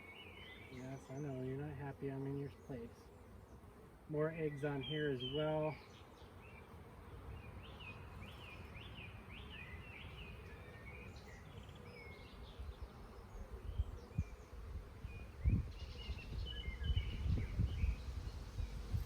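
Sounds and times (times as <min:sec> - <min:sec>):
honeybees humming: 0:00.0 - 0:19.0
songbird chirping: 0:00.0 - 0:19.0.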